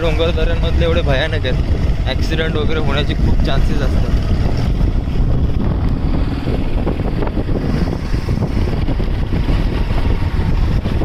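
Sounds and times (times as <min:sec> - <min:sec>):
motorcycle engine rumble: 0:00.0 - 0:11.0
wind buffeting microphone: 0:00.0 - 0:11.0.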